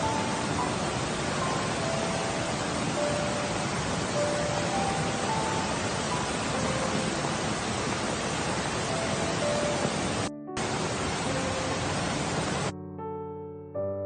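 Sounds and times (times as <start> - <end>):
loud rushing hiss: 0.0 - 12.7
soft piano music: 0.0 - 14.0.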